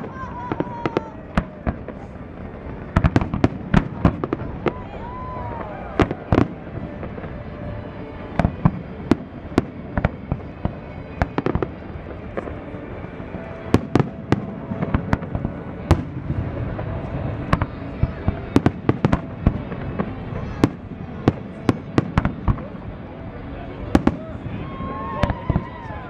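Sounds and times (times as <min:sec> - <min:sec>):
fireworks rumble and crackle: 0:00.0 - 0:26.0.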